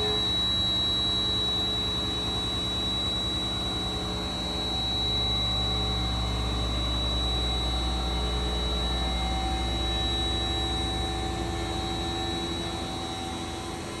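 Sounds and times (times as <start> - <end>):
milling machine whine: 0.0 - 14.0.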